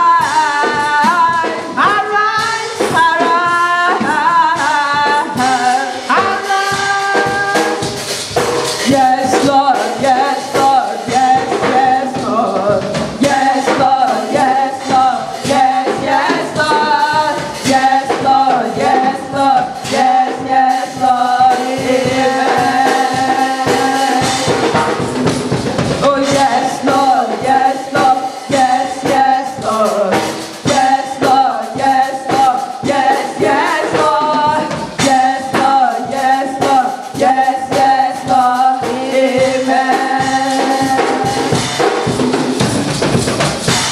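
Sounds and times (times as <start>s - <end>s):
band playing with steady beat: 0.0s - 43.9s
choir singing worship song: 0.0s - 43.9s.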